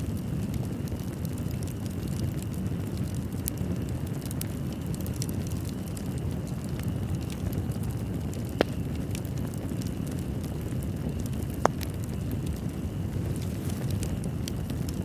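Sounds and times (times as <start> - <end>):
fire pops: 0.0 - 15.0
low rumble of flames: 0.0 - 15.0
wood fire crackling: 0.0 - 15.0.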